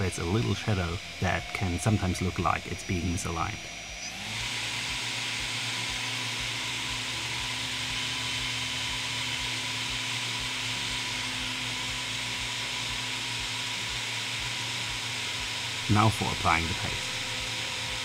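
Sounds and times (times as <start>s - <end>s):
small motor air rush with whine: 0.0s - 18.0s.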